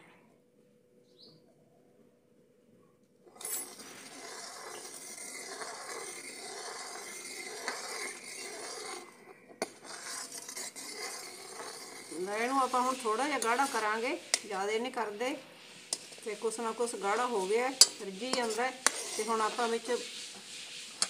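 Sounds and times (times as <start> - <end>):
ladle scraping metal pan: 3.3 - 21.0.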